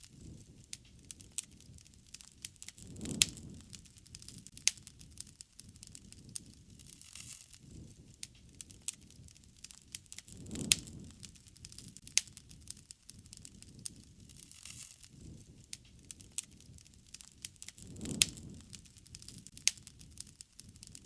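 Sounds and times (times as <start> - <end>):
soft rush of flame: 0.0 - 21.0
wood fire crackling and popping: 0.0 - 21.0.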